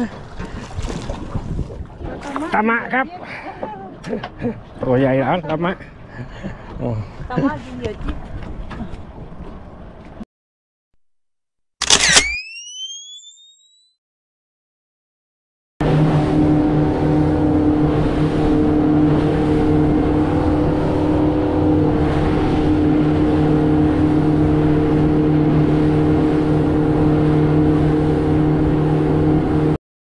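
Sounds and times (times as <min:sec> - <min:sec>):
speedboat engine running: 0:00.0 - 0:10.2, 0:15.8 - 0:29.8.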